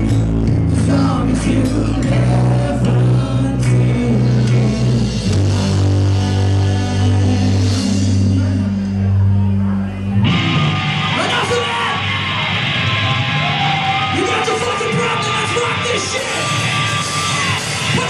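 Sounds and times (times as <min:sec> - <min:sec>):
live heavy rock band: 0:00.0 - 0:18.0.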